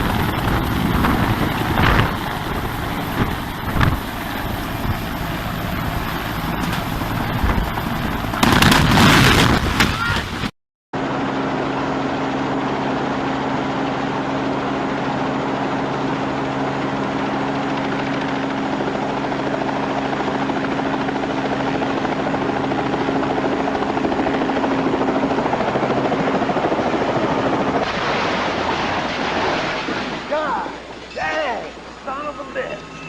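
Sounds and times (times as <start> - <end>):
helicopter rotor and engine: 0.0 - 10.4, 11.0 - 28.0, 30.2 - 33.0.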